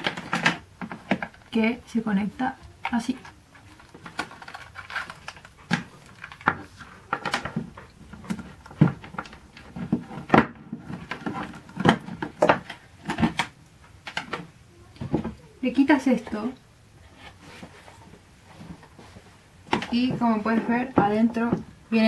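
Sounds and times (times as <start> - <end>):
cables rustling: 0.0 - 22.0.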